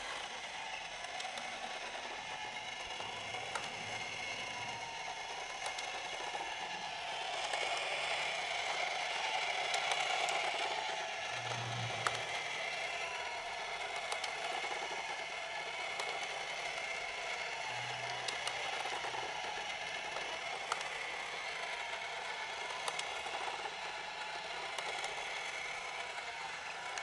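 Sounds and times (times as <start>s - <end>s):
plastic gears whirring: 0.0s - 27.0s.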